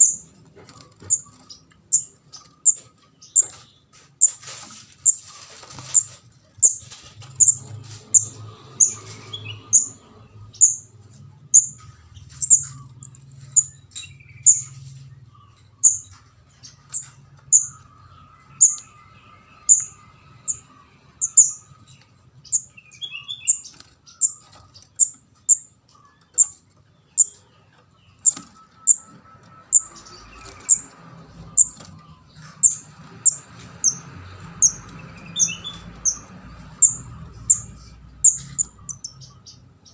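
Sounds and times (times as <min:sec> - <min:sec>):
high-pitched bird chirping: 0:00.0 - 0:39.9.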